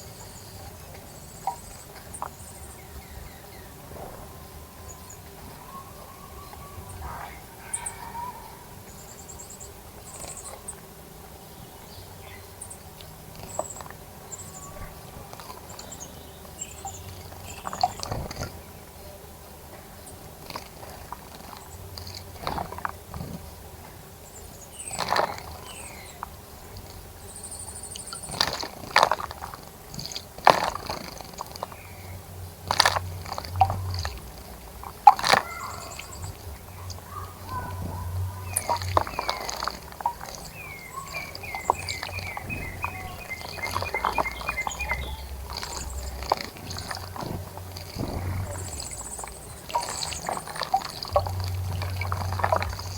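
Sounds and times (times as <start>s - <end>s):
birds chirping: 0.0s - 52.9s
birds splashing in water: 0.0s - 52.9s.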